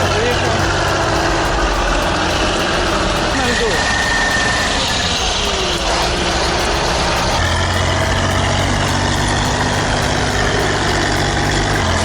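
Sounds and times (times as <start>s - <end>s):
steady low drone: 0.0s - 12.0s
tractor diesel engine running: 0.0s - 12.0s.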